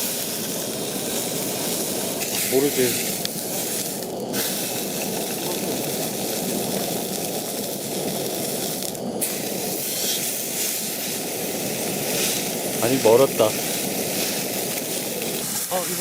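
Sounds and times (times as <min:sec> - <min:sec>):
campfire hissing: 0:00.0 - 0:16.0.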